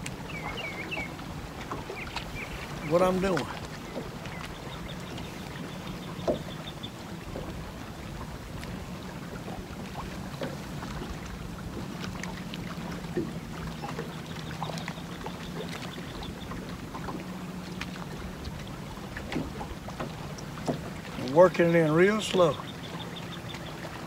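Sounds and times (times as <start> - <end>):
water lapping against hull: 0.0 - 24.0.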